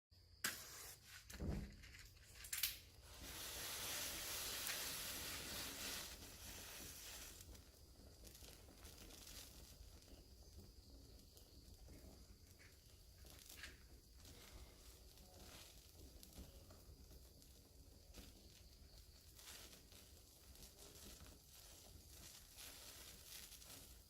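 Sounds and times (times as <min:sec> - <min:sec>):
match flaring hiss: 0:00.3 - 0:24.0
match strike: 0:00.3 - 0:24.0.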